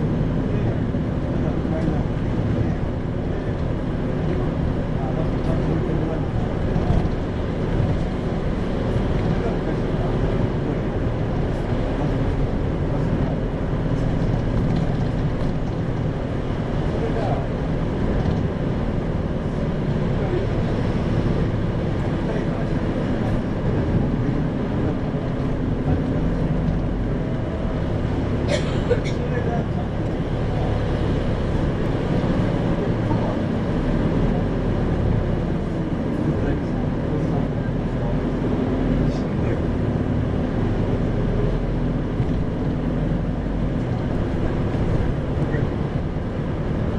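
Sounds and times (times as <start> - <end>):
diesel bus engine drone: 0.0 - 46.9
road and tyre noise: 0.0 - 46.9.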